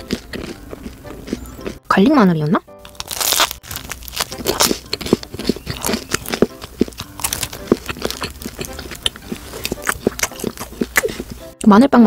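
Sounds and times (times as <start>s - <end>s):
chewing bread: 0.0s - 1.8s, 2.9s - 11.6s.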